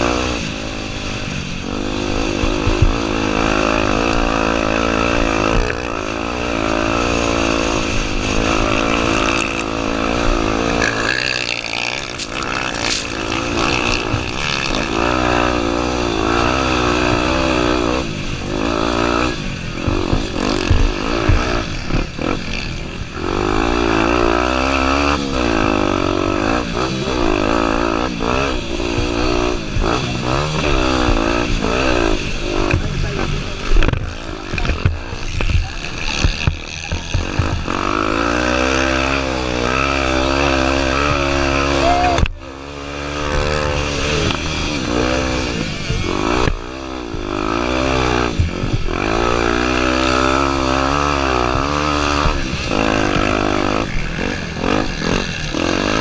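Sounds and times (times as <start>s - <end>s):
bike rattling over rough ground: 0.0s - 56.0s
motorcycle engine revving: 0.0s - 56.0s.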